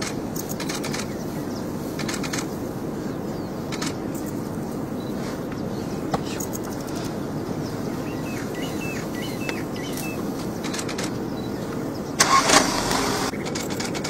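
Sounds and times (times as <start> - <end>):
faint bird chirps: 0.0 - 13.7
outdoor background noise: 0.0 - 14.0.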